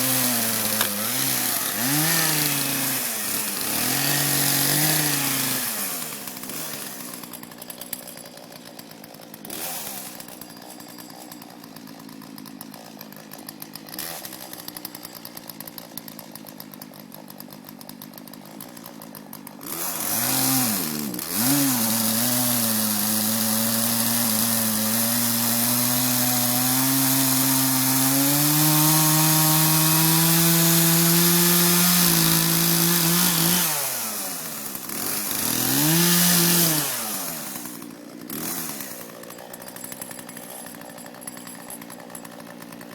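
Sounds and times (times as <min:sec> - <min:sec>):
chainsaw cutting wood: 0:00.0 - 0:42.9
chainsaw engine: 0:00.0 - 0:42.9.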